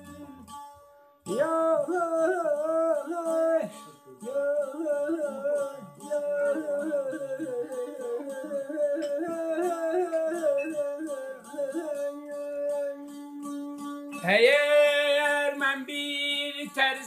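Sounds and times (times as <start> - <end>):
plucked lute melody over drone: 0.0 - 17.0.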